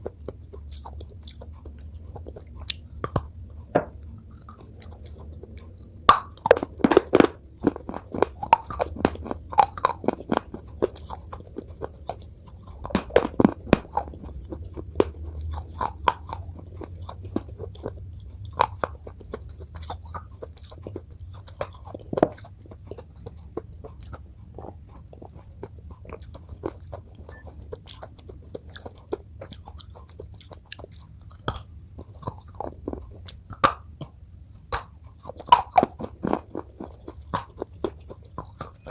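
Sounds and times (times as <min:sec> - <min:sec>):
crunching and chewing food: 0:00.0 - 0:38.9
steady low hum: 0:00.0 - 0:38.9.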